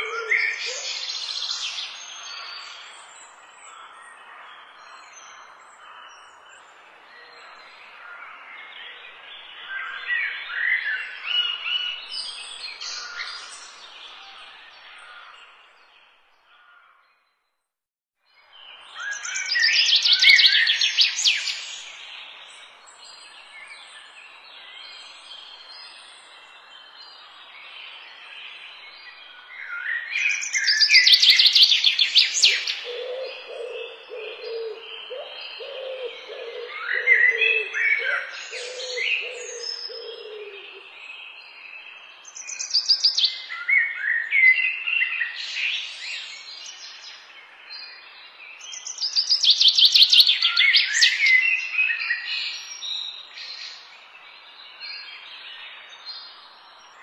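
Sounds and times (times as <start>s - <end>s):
songbirds chirping: 0.0s - 17.6s, 18.3s - 57.0s.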